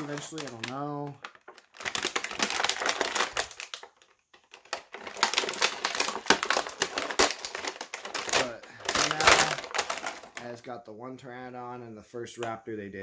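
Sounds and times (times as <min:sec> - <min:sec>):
plastic packaging crackling: 0:00.0 - 0:10.6.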